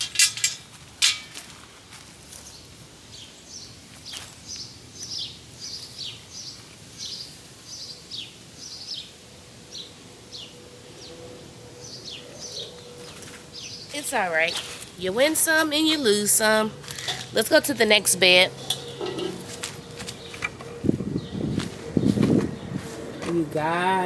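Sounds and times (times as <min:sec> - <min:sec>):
songbird chirping: 0:02.3 - 0:24.0.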